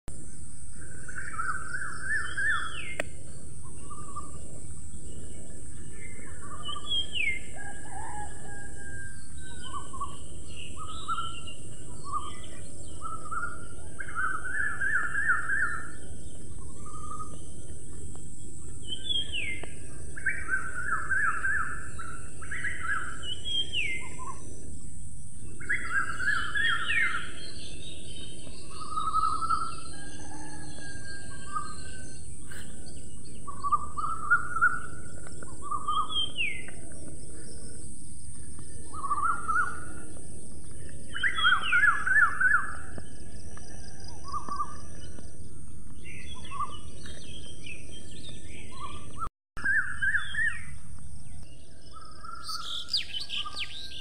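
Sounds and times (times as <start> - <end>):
birds chirping and whistling: 0.2 - 54.0.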